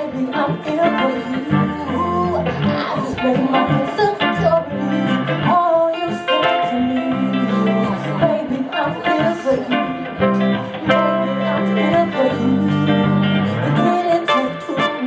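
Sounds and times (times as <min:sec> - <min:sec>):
guitar accompaniment: 0:00.0 - 0:15.0
person singing: 0:00.0 - 0:15.0.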